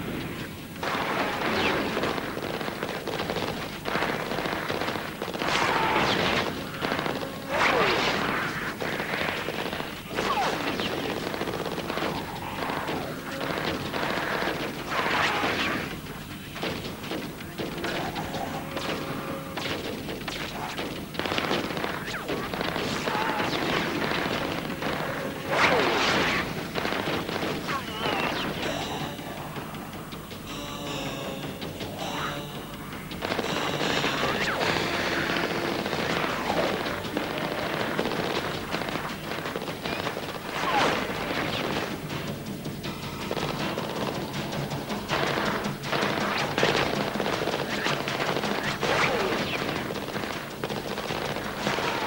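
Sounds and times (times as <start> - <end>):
explosions: 0.0 - 42.3, 43.2 - 52.0
gunfire: 0.0 - 52.0
automatic rifle firing bursts: 0.8 - 52.0.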